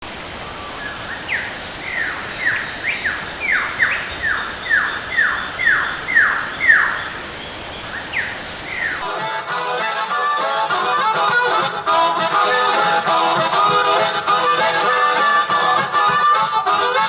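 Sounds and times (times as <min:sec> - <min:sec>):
bird whistling descending notes: 0:00.4 - 0:17.0.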